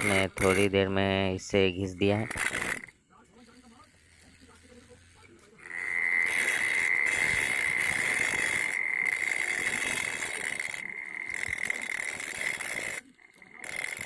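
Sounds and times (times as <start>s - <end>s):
disc grinding iron: 0.0s - 14.0s
grinder motor whine: 0.0s - 14.0s.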